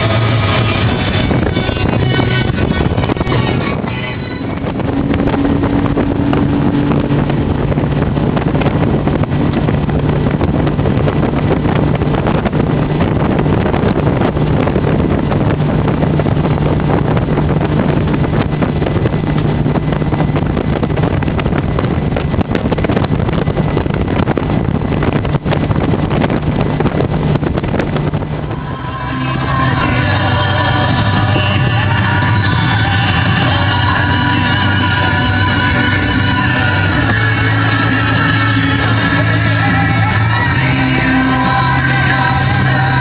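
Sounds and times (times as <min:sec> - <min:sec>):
boat engine droning: 0:00.0 - 0:43.0
wind buffeting microphone: 0:00.0 - 0:43.0.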